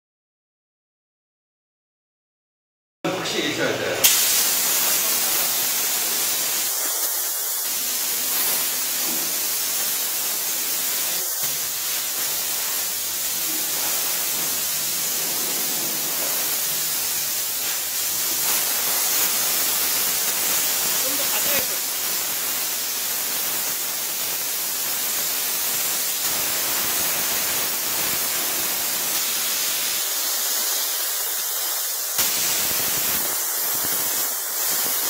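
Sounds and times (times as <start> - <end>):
steam cleaner hissing: 4.0 - 35.0.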